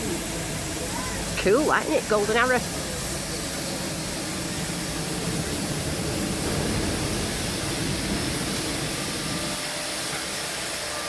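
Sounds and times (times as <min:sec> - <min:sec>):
steam hissing from locomotive: 0:00.0 - 0:11.0.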